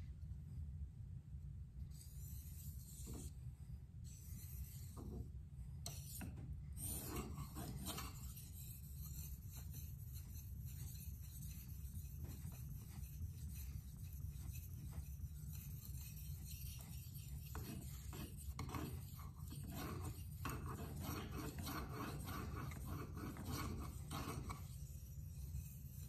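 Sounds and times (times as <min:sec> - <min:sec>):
steady low hum: 0:00.0 - 0:26.0
knife scraping on whetstone: 0:01.9 - 0:03.4, 0:04.1 - 0:26.0.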